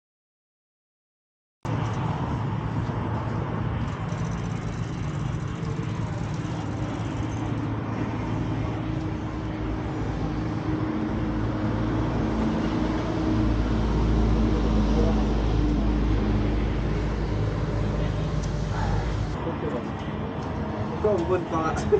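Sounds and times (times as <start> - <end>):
road traffic: 1.7 - 21.9
vehicle engine rumble: 1.7 - 21.9.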